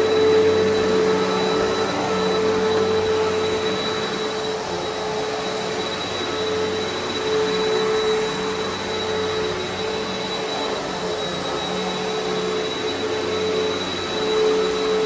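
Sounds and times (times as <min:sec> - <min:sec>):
upright vacuum cleaner running: 0:00.0 - 0:15.0.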